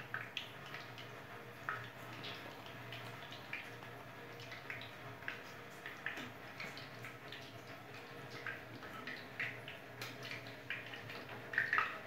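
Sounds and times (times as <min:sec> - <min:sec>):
hot oil crackling and popping: 0:00.0 - 0:12.0.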